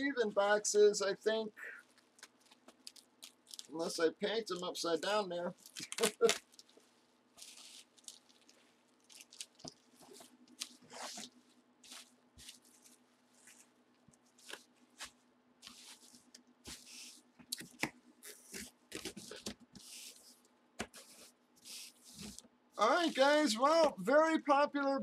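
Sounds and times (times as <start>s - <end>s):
bubble wrap crinkling: 1.6s - 23.8s.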